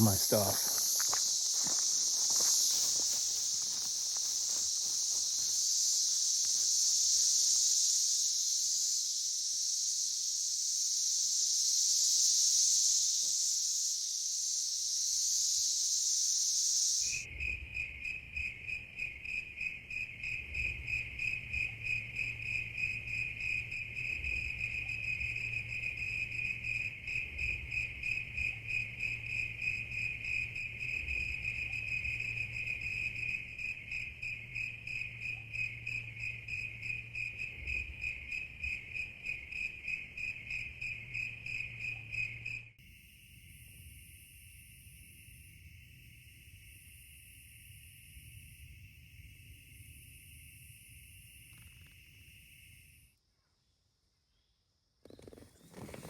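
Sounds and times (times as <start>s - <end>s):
cricket-like trill: 0.0s - 53.2s
insects buzzing drone: 0.0s - 53.2s.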